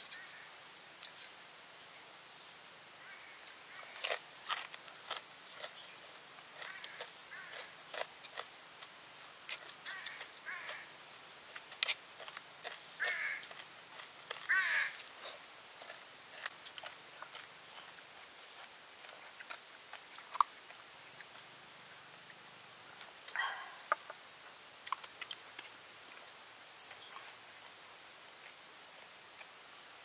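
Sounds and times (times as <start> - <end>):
crunchy food being eaten: 3.3 - 22.5, 23.1 - 29.6.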